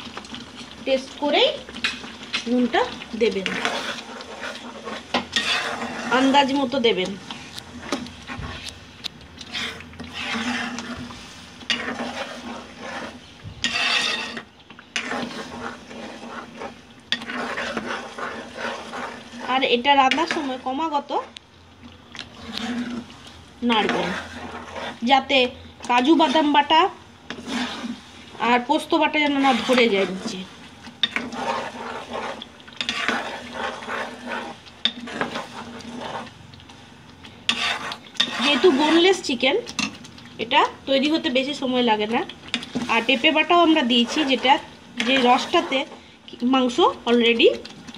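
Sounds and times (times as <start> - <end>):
spatula scraping wok: 0.0 - 21.4, 22.2 - 47.9
gravy sizzling: 0.0 - 47.9.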